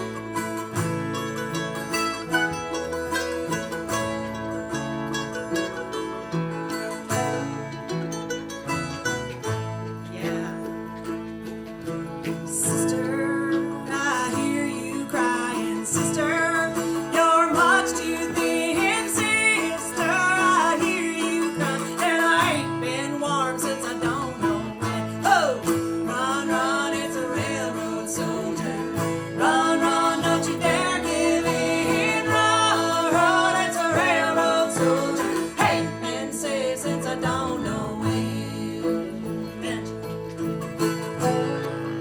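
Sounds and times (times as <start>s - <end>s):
bluegrass band playing: 0.0s - 42.0s.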